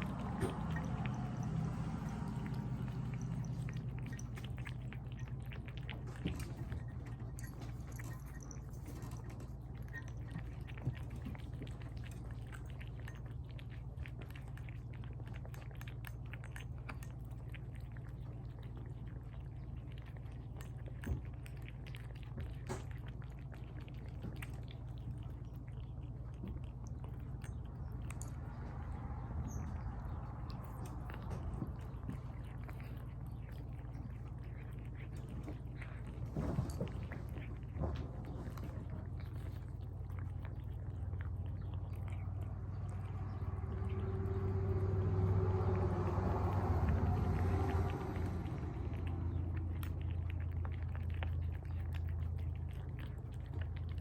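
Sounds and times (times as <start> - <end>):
cats chewing wet food: 0.0 - 54.0
low steady hum: 0.0 - 54.0.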